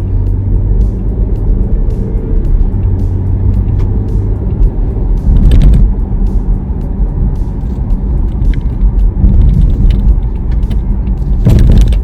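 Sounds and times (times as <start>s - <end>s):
car engine and road noise: 0.0s - 12.0s
music playing in car: 0.0s - 12.0s.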